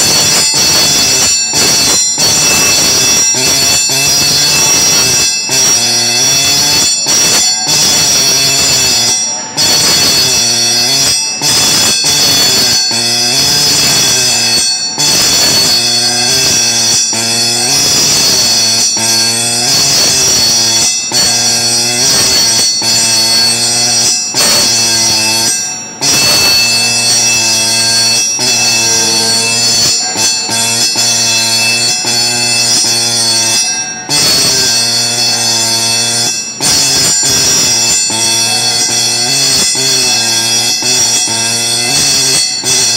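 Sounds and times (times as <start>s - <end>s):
engraving pen shrill buzz: 0.0s - 42.9s.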